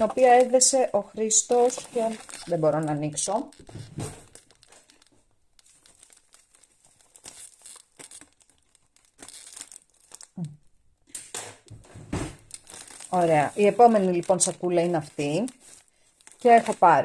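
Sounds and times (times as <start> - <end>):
plastic bag crinkling: 0.0 - 11.8, 12.4 - 17.0.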